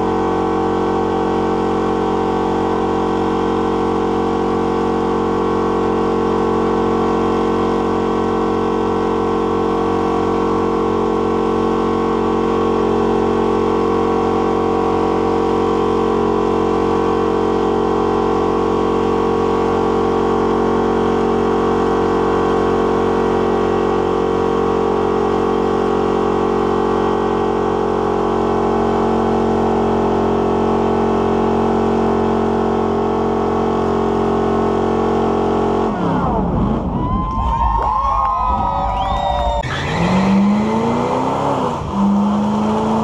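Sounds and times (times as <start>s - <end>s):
car engine revving high: 0.0s - 37.2s, 38.3s - 43.0s.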